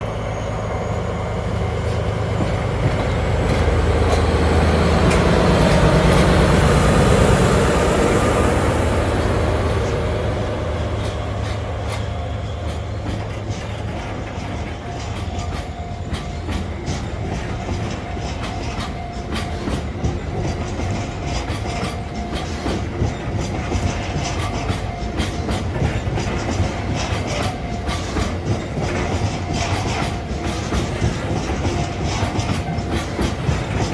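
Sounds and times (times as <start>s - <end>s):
diesel locomotive engine rumble: 0.0s - 33.9s
train wheels clicking over joints: 0.9s - 33.9s.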